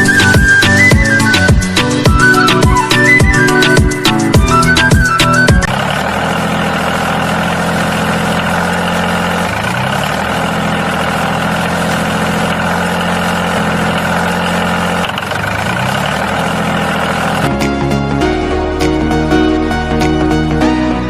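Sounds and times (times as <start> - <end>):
tractor engine running: 0.0 - 20.6.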